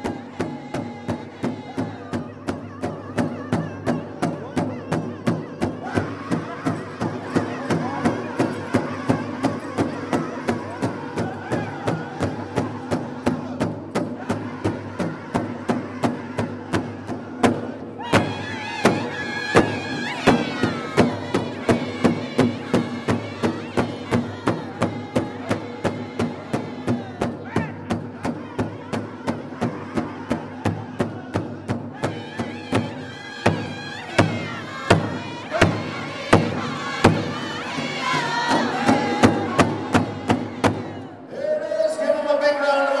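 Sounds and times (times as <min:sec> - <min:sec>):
large drum steady beat: 0:00.0 - 0:41.1
crowd murmur: 0:00.0 - 0:41.3
high women's voices singing: 0:00.0 - 0:41.4
men singing: 0:00.0 - 0:43.0.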